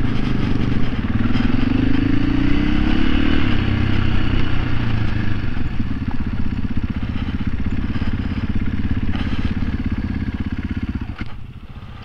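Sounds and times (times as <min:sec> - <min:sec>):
off-road motorcycle engine: 0:00.0 - 0:12.0.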